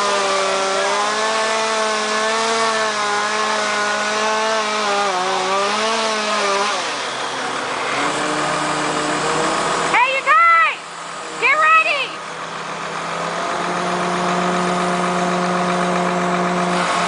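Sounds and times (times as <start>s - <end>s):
chainsaw cutting wood: 0.0s - 10.0s, 12.9s - 17.0s.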